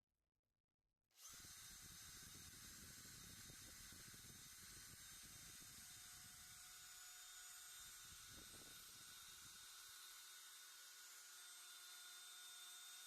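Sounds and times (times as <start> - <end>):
electric drill whining: 1.2 - 13.0.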